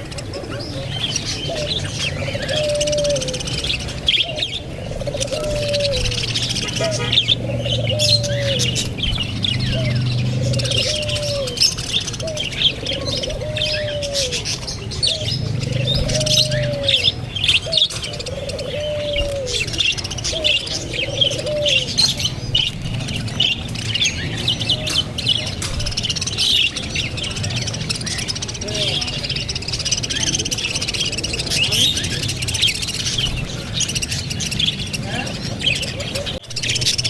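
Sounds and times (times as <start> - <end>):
birds chirping rapidly: 0.0 - 37.0
rising and falling bird call: 0.0 - 37.0.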